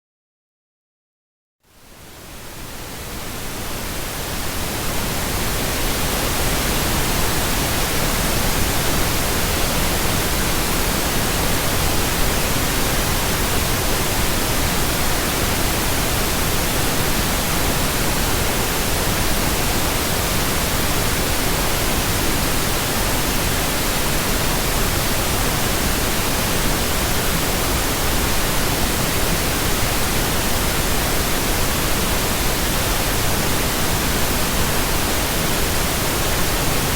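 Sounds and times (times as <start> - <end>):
pink noise hiss: 1.7 - 36.9.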